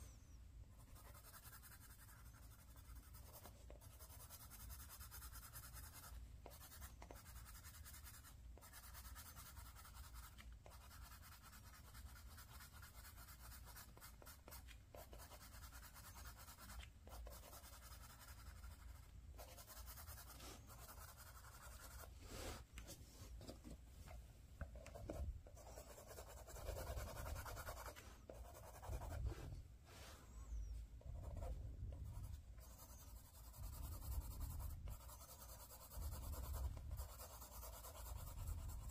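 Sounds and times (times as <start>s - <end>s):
pencil scratching on paper: 0.7s - 23.0s, 24.8s - 29.6s, 31.0s - 38.9s.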